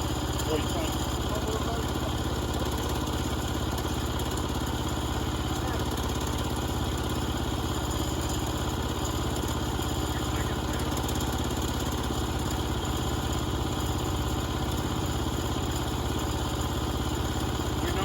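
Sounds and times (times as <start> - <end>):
small gasoline engine idling: 0.0 - 18.0.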